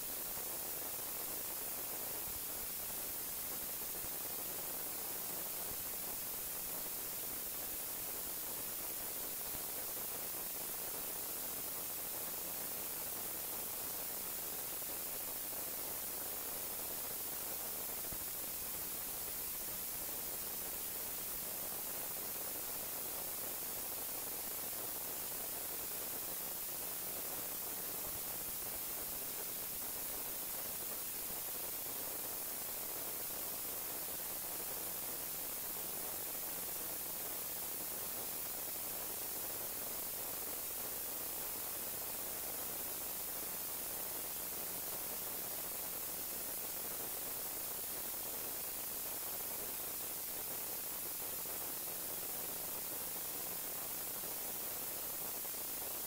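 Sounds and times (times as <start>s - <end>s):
electronic hiss: 0.0s - 56.0s.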